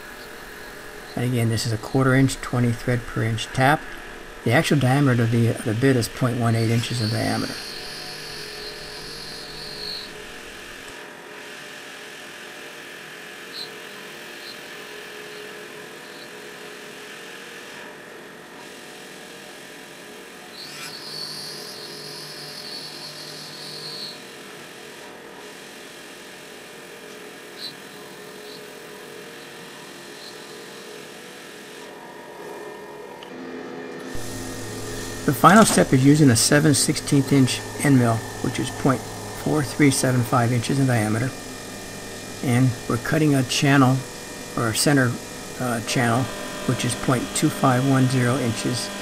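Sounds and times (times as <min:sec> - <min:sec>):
milling machine hum: 0:00.0 - 0:11.2, 0:20.6 - 0:49.0
high machine whine: 0:00.0 - 0:12.2, 0:20.6 - 0:25.2, 0:25.8 - 0:49.0.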